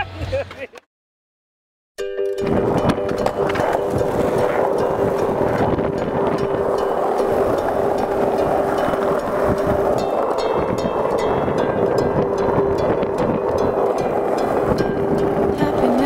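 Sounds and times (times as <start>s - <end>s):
skateboard wheels rolling on asphalt: 2.4s - 16.0s
wind buffeting microphone: 2.4s - 16.0s.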